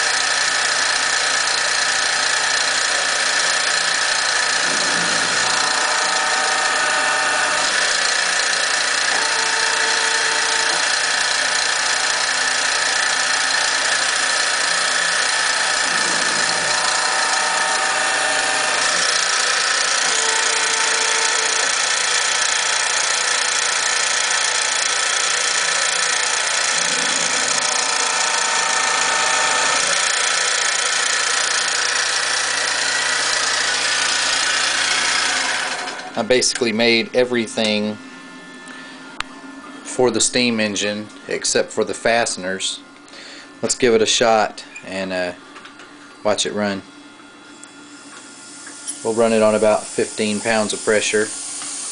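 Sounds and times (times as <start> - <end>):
drill bit drilling metal: 0.0 - 38.0, 48.2 - 51.9
mill spindle motor whine: 0.0 - 51.9.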